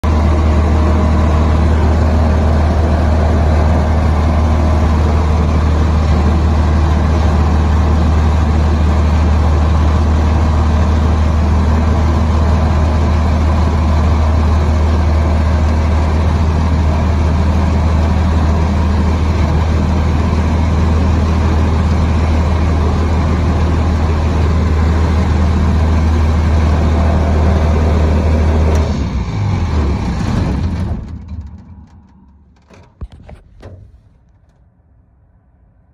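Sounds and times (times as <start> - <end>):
light aircraft engine drone: 0.0 - 35.9.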